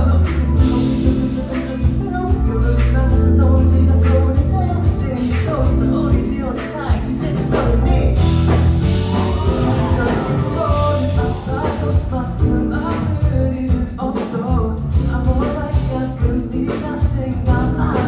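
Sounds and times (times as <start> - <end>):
live pop-rock band with singer: 0.0 - 18.0.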